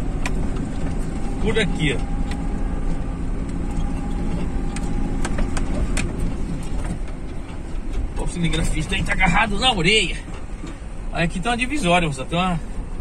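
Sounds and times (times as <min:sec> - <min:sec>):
engine hum inside cab: 0:00.0 - 0:13.0.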